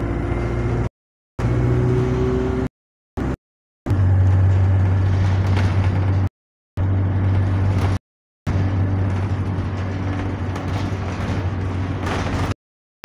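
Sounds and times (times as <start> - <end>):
bus engine low hum: 0.0 - 12.6.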